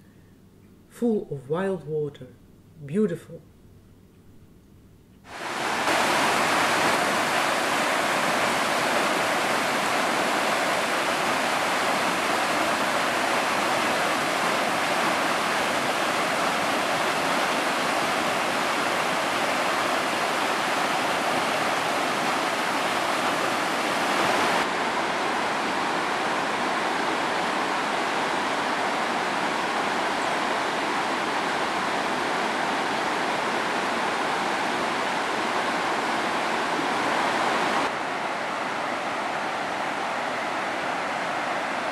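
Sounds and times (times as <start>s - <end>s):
stream rushing over boulders: 5.3s - 41.9s.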